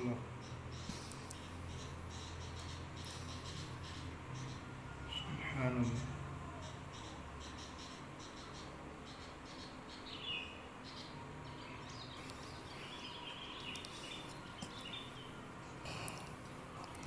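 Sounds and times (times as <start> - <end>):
birds chirping: 0.0 - 17.0
faint hum: 0.0 - 17.0.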